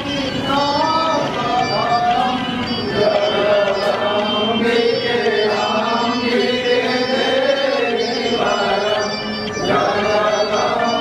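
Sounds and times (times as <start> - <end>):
mantras chanted: 0.0 - 11.0.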